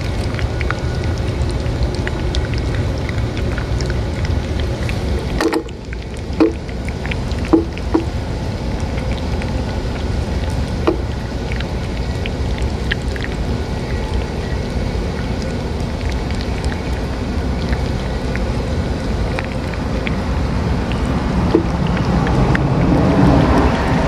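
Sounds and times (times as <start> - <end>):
cats chewing and licking: 0.0 - 23.8.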